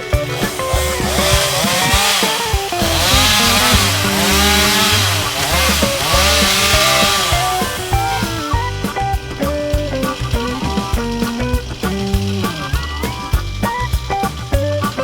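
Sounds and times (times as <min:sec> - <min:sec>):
chainsaw cutting: 0:00.0 - 0:15.0
music with pulsing bass beat: 0:00.0 - 0:15.0.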